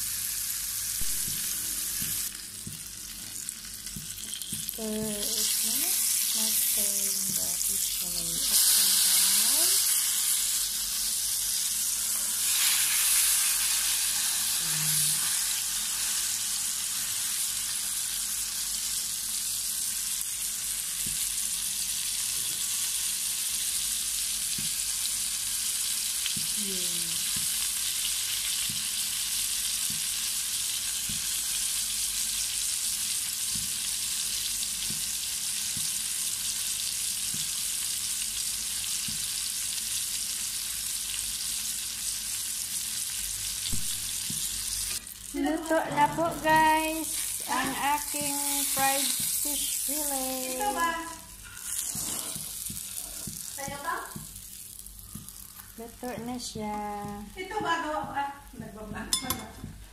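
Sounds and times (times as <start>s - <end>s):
fish sizzling in hot oil: 0.0s - 58.6s.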